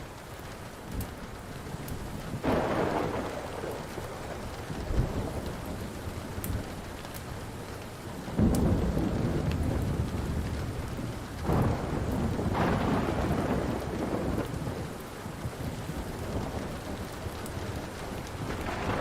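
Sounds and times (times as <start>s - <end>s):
steady rain: 0.0s - 19.0s
wood fire crackling: 0.0s - 19.0s
rolling thunder: 1.8s - 6.9s, 8.2s - 19.0s.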